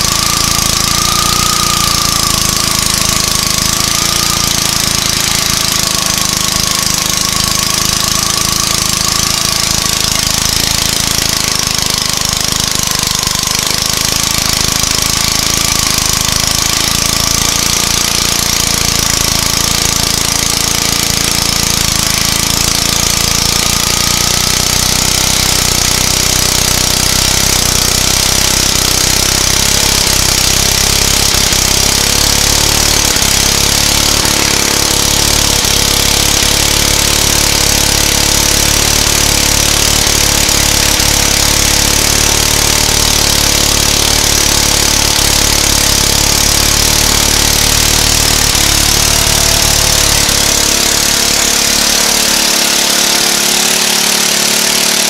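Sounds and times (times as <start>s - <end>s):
go-kart engine at high revs: 0.0s - 55.0s
tire spinning on pavement: 0.0s - 55.0s.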